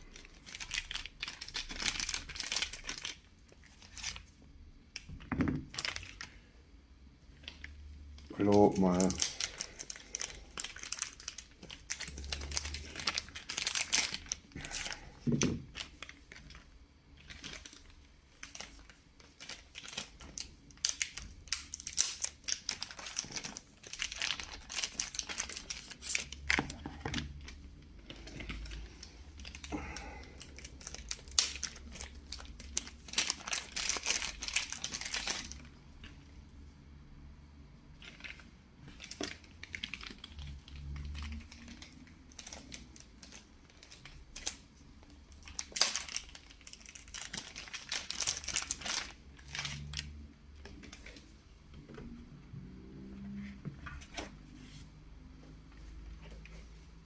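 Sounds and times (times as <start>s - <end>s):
plastic bag crinkling: 0.0s - 6.5s, 7.3s - 36.4s, 37.9s - 54.8s.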